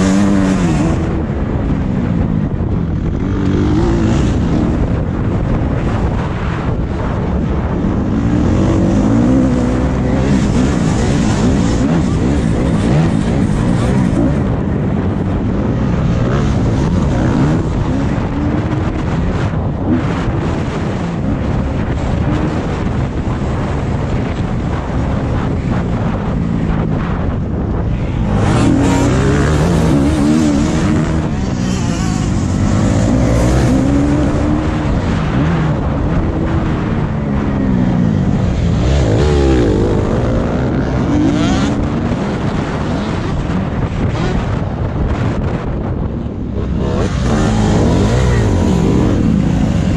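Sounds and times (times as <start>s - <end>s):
motorcycle engine revving: 0.0s - 49.9s
steady rush of noise: 0.0s - 49.9s.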